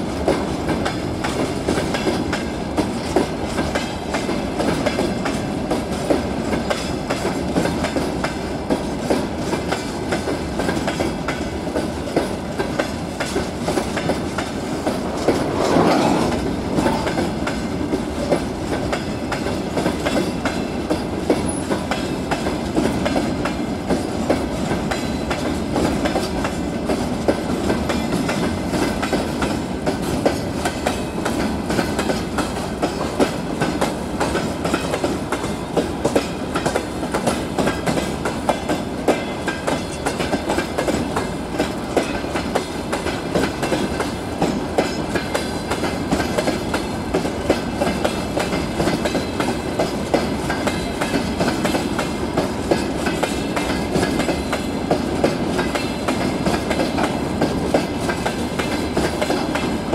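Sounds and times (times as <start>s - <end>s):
freight train wheels clattering: 0.0s - 59.9s
train rumble: 0.0s - 59.9s.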